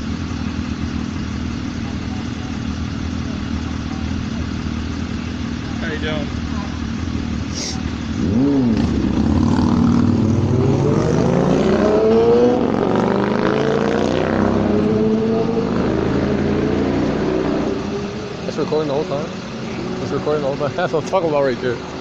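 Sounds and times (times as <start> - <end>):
vehicle engine accelerating: 0.0 - 22.0.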